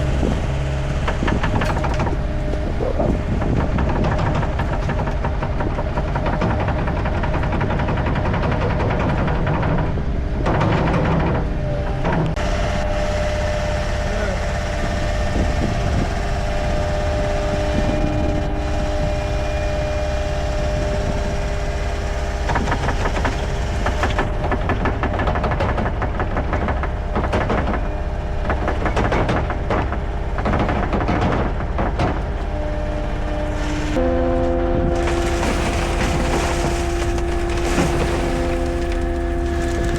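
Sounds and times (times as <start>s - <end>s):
dense rattling and clatter: 0.0s - 34.0s, 34.9s - 39.9s
heavy vehicle engine running: 0.0s - 39.9s.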